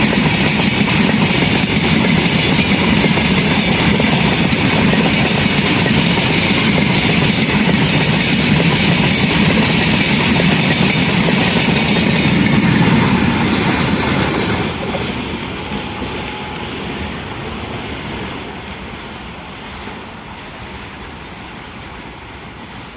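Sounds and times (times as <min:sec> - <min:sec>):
train wagons rolling on rails: 0:00.0 - 0:22.9.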